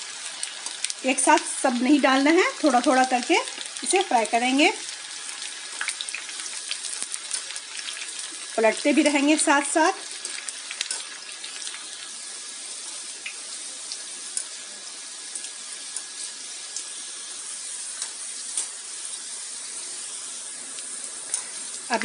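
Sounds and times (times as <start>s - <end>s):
okra sizzling in hot oil: 0.0s - 22.0s.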